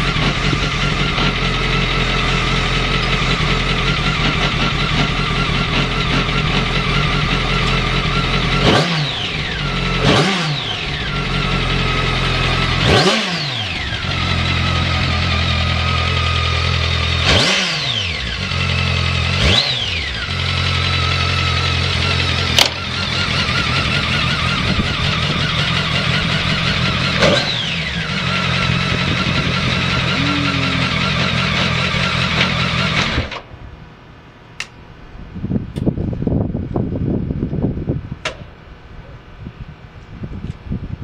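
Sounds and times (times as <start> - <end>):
motorcycle engine idling and revving: 0.0 - 33.6.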